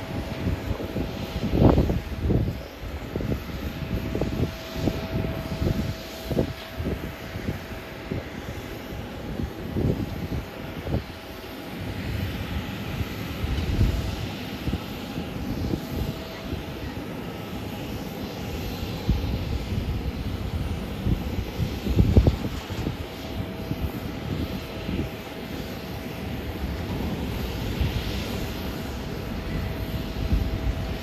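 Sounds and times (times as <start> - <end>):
jet engines rumbling and hissing: 0.0 - 31.0.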